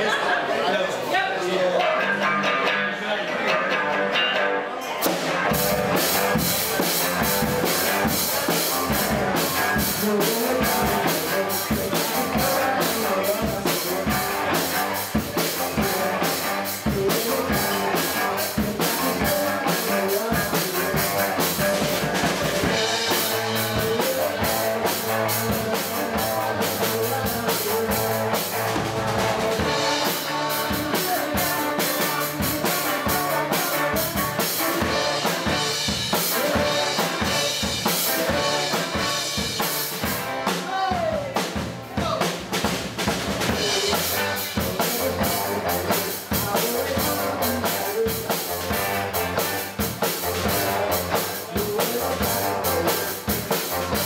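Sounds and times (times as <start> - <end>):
electric guitars: 1.4 - 54.0
drum kit beat: 3.4 - 54.0.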